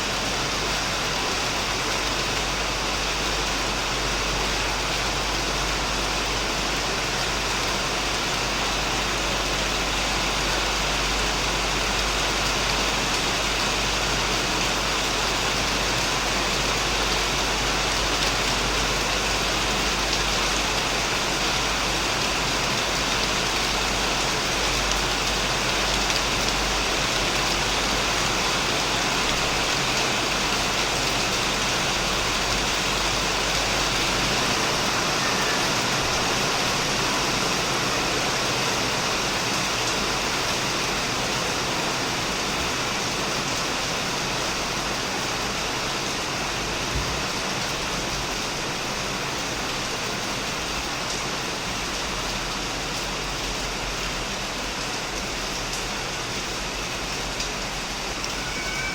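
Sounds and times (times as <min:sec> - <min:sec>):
heavy rain on a roof: 0:00.0 - 0:58.9.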